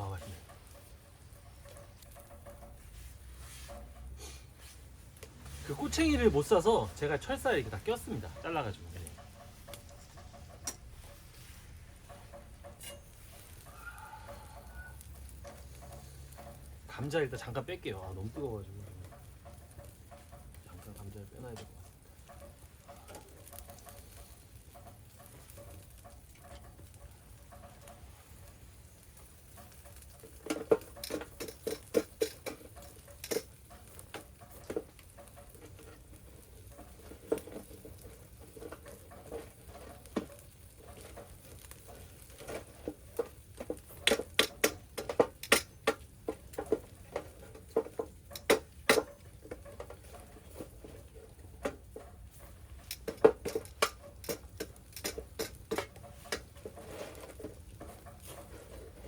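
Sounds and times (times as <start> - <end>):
faint steady hiss: 0.0 - 59.0
rain dripping: 0.0 - 59.0
wood fire crackling: 0.0 - 59.0.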